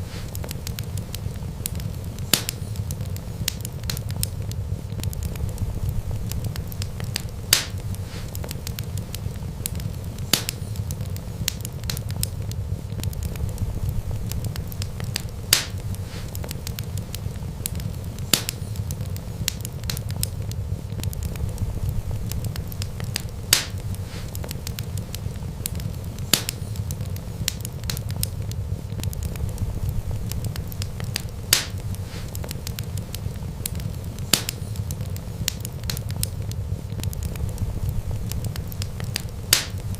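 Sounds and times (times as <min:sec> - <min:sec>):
burning wood popping: 0:00.0 - 0:39.9
wood fire crackling: 0:00.0 - 0:39.9.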